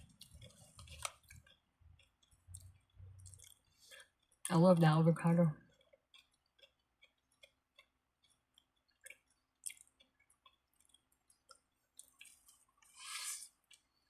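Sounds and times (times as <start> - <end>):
faint chewing with mouth clicks: 0.0 - 4.6, 5.5 - 14.0.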